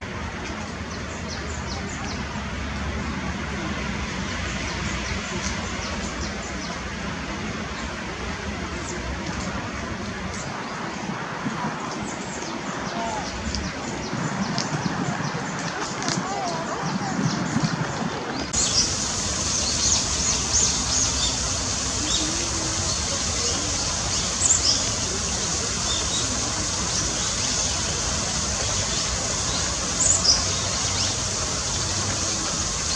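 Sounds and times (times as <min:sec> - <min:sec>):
rushing noise with rumble: 0:00.0 - 0:32.9
sparrows chirping: 0:00.8 - 0:02.4, 0:04.3 - 0:07.0, 0:08.7 - 0:32.9.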